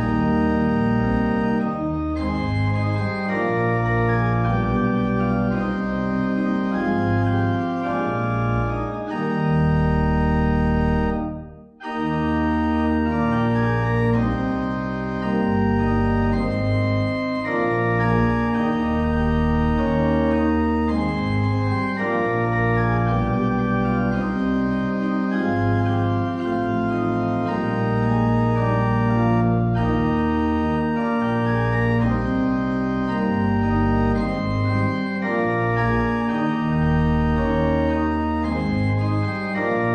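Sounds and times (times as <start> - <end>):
organ chords: 0.0 - 39.9.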